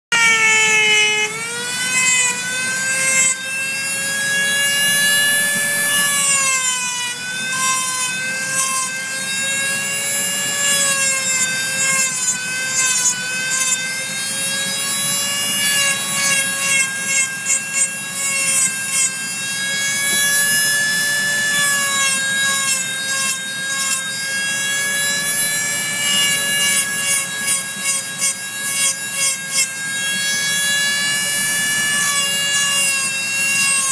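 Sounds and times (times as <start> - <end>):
bit grinding into wood: 0.1 - 33.9
rotary tool motor whine: 0.1 - 33.9.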